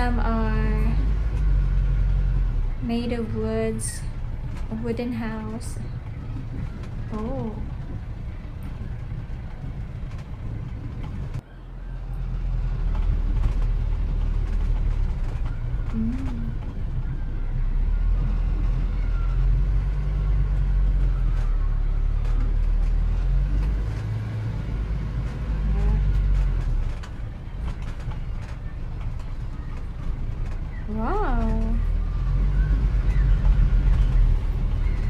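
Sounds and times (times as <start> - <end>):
engine low rumble: 0.0 - 35.0.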